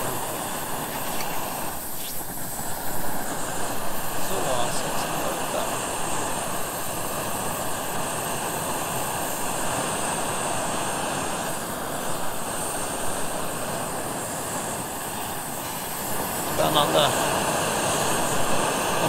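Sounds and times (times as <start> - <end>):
gas camping burner hissing: 0.0 - 19.0.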